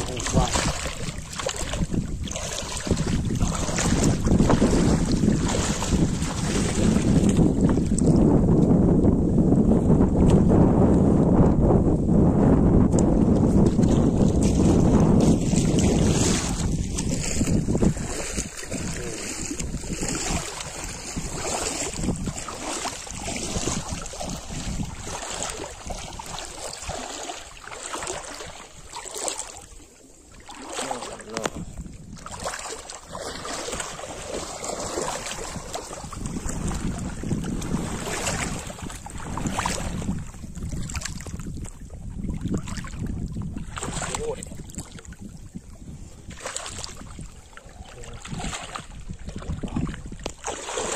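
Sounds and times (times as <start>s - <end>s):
water splashing from wading: 0.0s - 8.2s, 13.4s - 50.9s
wind rumbling on the microphone: 0.0s - 50.9s.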